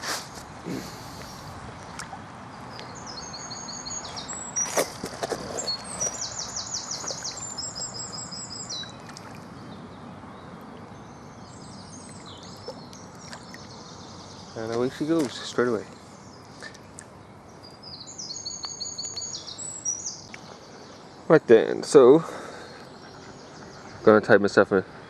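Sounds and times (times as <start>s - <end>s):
outdoor background hiss: 0.0s - 25.0s
songbird chirping and trilling: 1.2s - 25.0s.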